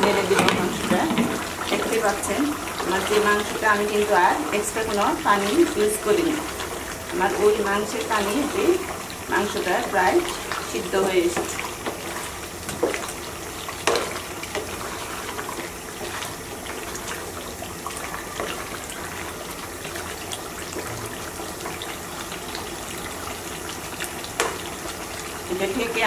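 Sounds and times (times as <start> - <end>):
pot of meat simmering hiss: 0.0 - 26.0.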